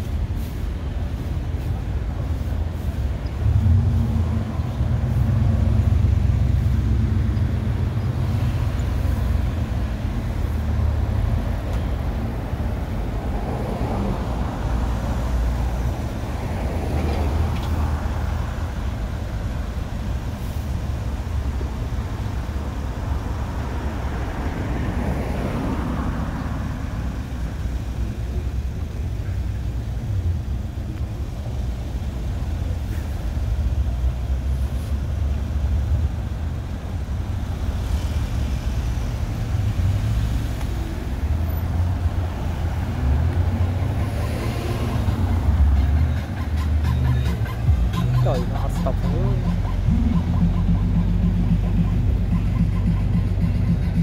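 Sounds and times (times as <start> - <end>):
low engine rumble: 0.0 - 54.0
vehicles passing: 0.0 - 54.0.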